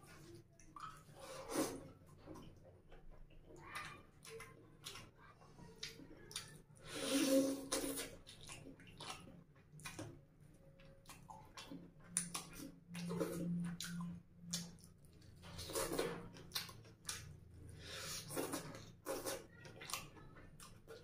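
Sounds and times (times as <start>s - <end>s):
wet slurping: 0.1s - 2.6s, 3.6s - 10.0s, 11.0s - 20.1s
chewing and lip smacks: 0.1s - 6.8s, 7.7s - 21.0s.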